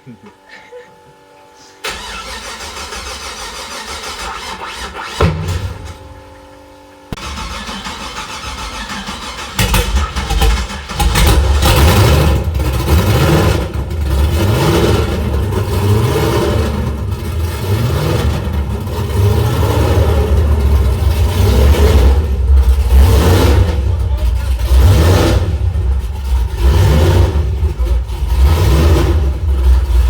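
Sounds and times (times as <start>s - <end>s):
engine starting and revving: 1.8s - 6.4s, 7.1s - 30.0s.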